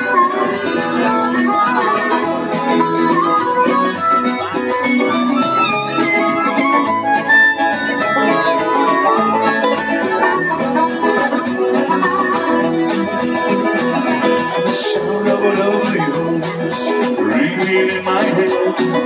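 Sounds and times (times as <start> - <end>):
harmonica melody: 0.0 - 19.0
live band playing: 0.0 - 19.0.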